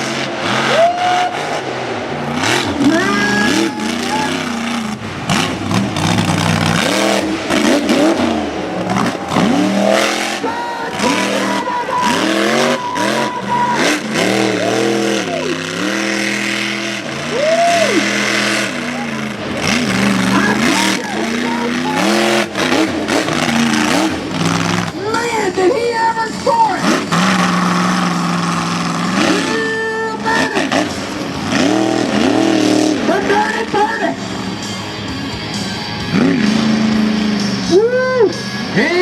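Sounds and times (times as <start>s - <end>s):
truck engine revving hard: 0.0s - 39.0s.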